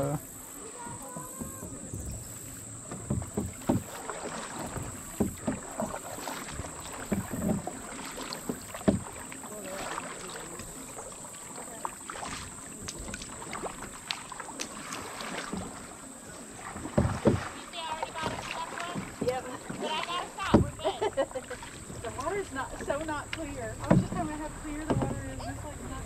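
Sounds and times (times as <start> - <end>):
paddles splashing in water: 0.0 - 26.0.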